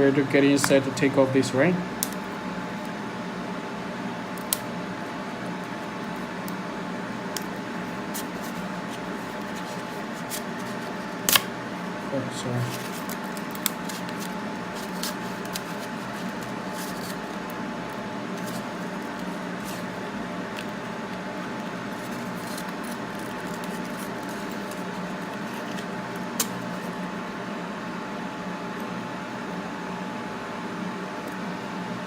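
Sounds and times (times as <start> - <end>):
machine fan running: 0.0 - 32.0.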